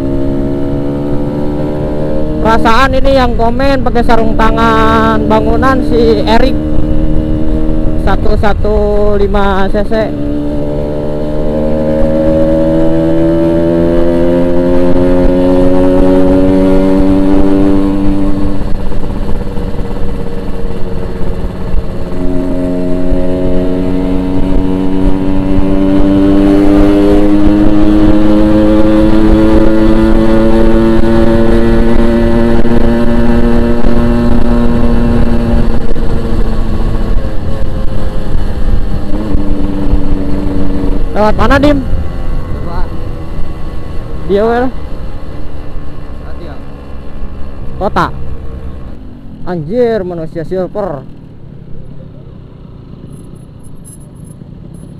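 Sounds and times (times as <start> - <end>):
two-stroke motorcycle engine: 0.0 - 54.9.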